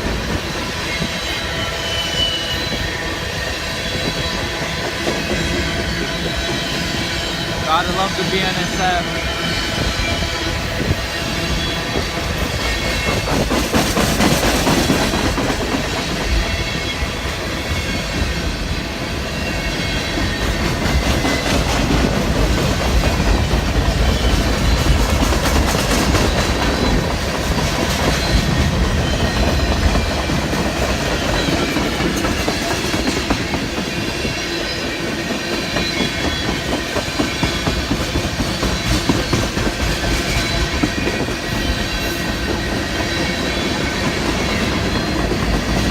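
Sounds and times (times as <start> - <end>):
steel wheels clattering on rail: 0.0 - 45.9.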